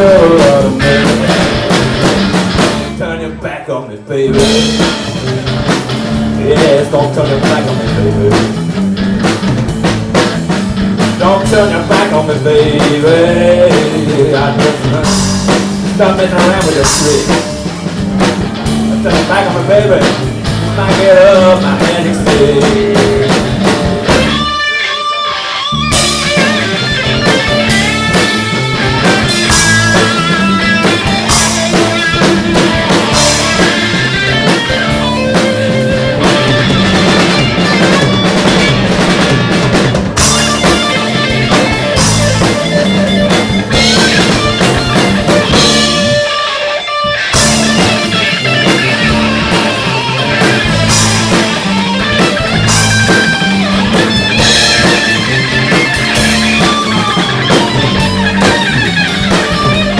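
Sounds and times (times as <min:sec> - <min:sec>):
live blues-rock band playing: 0:00.0 - 0:59.9.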